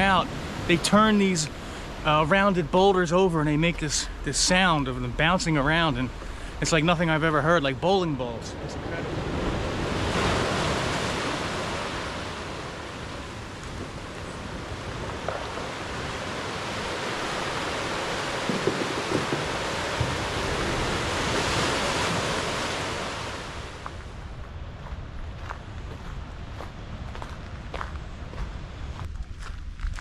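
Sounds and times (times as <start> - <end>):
waves surging over boulders: 0.0 - 24.1.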